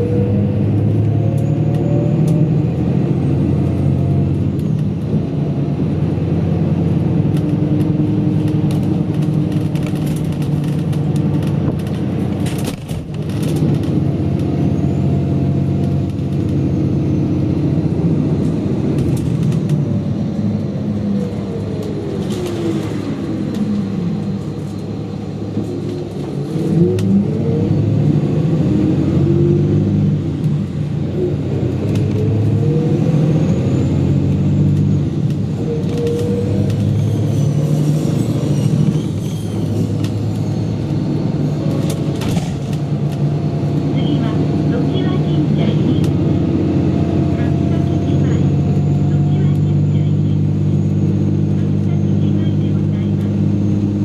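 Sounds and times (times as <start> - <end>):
bus engine from inside cabin: 0.0 - 54.0.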